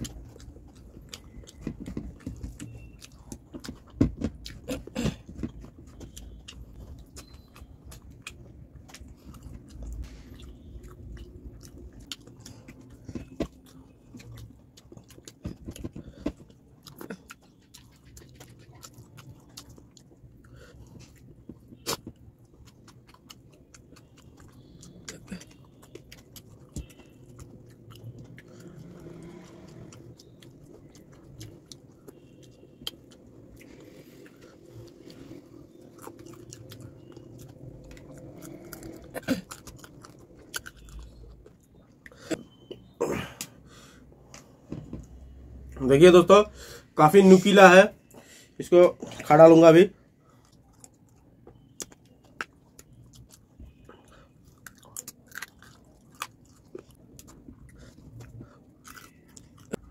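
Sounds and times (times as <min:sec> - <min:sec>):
man chewing and biting: 0:00.0 - 0:45.8, 0:50.0 - 0:59.9.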